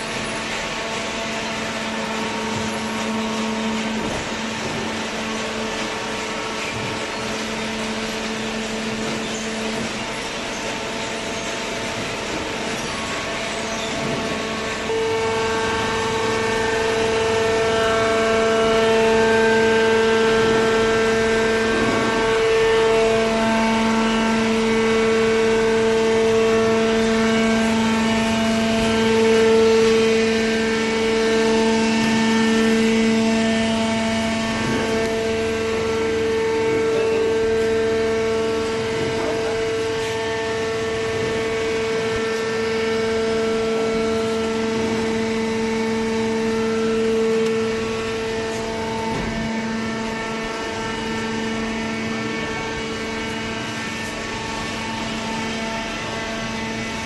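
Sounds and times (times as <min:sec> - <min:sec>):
motor and pump humming: 0:00.0 - 0:57.0.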